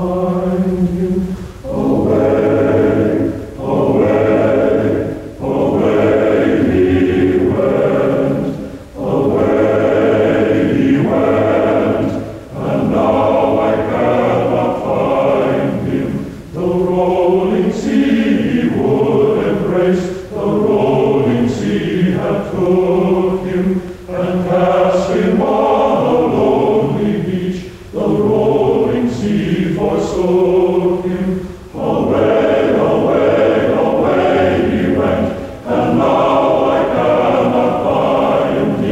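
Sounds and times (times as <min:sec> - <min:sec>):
choir singing long phrases: 0:00.0 - 0:38.9.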